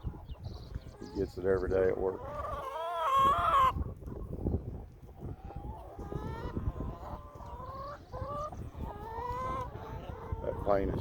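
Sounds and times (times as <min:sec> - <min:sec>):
hens calling: 0:00.0 - 0:11.0.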